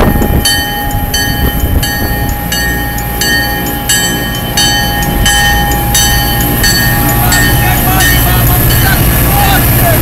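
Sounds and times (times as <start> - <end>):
diesel locomotive rumbling: 0.0 - 10.0
railroad crossing bell dinging: 0.0 - 10.0.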